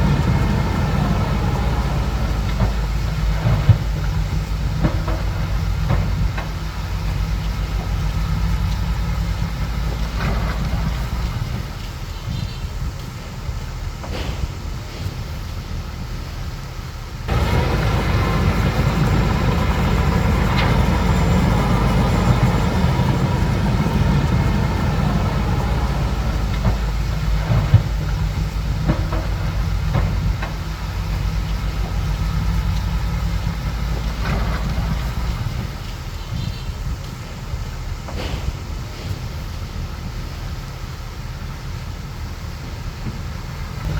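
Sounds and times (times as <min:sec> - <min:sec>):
metallic clanks from tracks: 0:00.0 - 0:12.2, 0:14.0 - 0:15.8, 0:17.3 - 0:37.4, 0:38.0 - 0:40.4
bulldozer diesel engine under load: 0:00.0 - 0:43.9.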